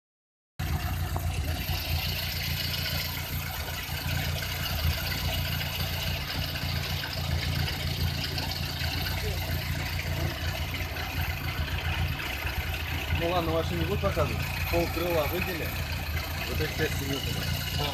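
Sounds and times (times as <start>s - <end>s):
car engine with metallic knock: 0.6s - 17.9s.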